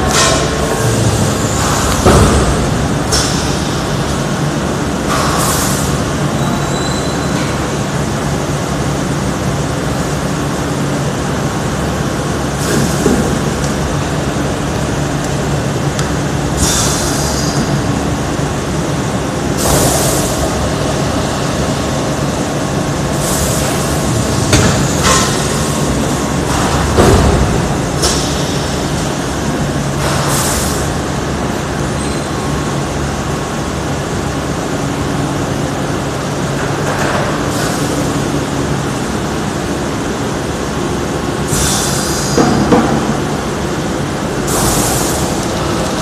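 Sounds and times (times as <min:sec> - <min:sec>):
packaging machine humming: 0:00.0 - 0:46.0.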